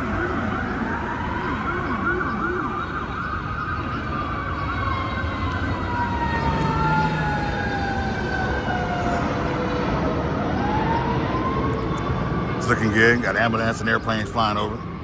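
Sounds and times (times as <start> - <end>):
ambulance siren: 0.0 - 15.0
traffic noise: 0.0 - 15.0.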